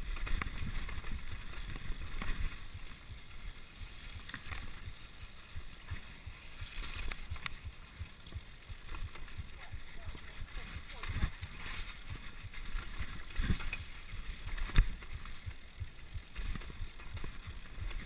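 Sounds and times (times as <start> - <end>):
bike clicks and rattles: 0.0 - 18.0
bike tyres rumbling on dirt: 0.0 - 18.0.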